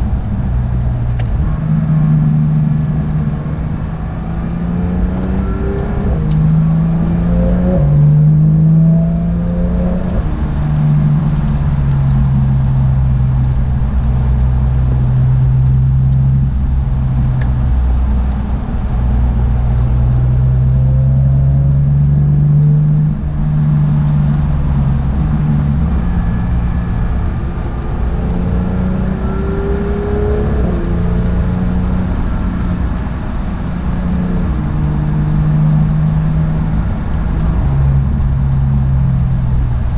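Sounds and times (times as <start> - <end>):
car engine revving with gear shifts: 0.0 - 39.9
steady low rumble: 0.0 - 39.9.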